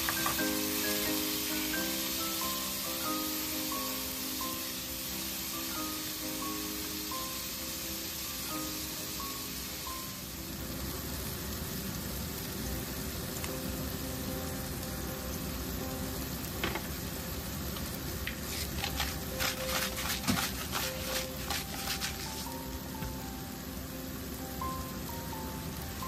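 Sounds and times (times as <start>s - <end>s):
sharp crackles and clicks: 0.0s - 9.3s, 10.7s - 23.2s
food sizzling in hot oil: 0.0s - 26.0s.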